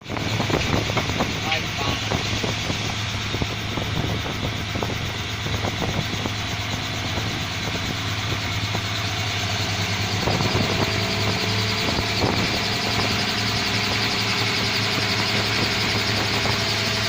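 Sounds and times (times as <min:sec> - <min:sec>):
helicopter engine and rotor drone: 0:00.0 - 0:17.0
high-pitched whine: 0:00.0 - 0:17.0.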